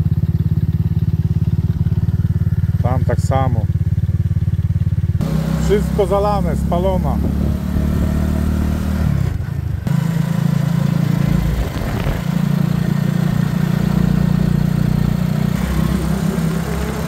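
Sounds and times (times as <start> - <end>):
wind and road noise: 0.0 - 2.8, 3.8 - 17.0
vehicle engine humming: 0.0 - 17.0.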